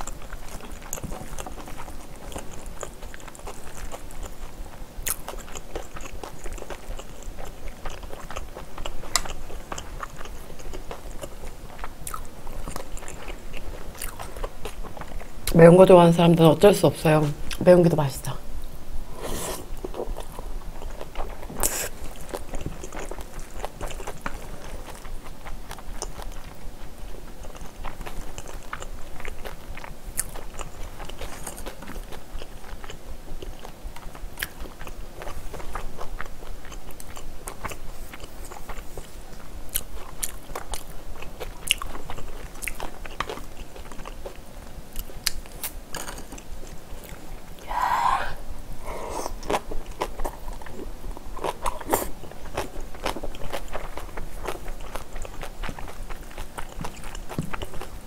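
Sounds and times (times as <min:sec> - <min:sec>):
chewing and biting food: 0:00.0 - 0:15.6, 0:19.8 - 0:47.6, 0:48.9 - 0:58.0.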